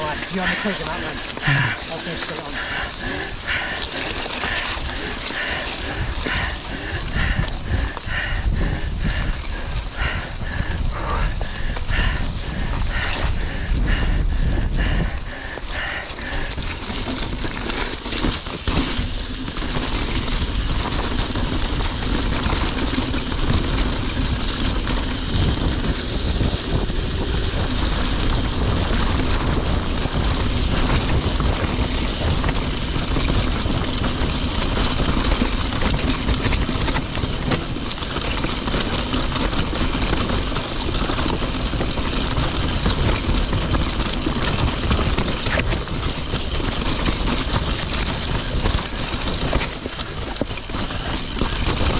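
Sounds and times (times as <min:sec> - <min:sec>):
bike frame rattling: 0:00.0 - 0:51.9
bike tyres rumbling over stones: 0:00.0 - 0:51.9.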